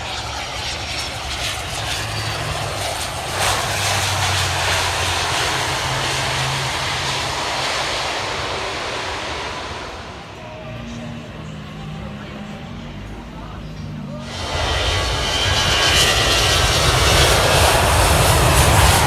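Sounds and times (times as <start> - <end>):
airplane engines running: 0.0 - 19.0.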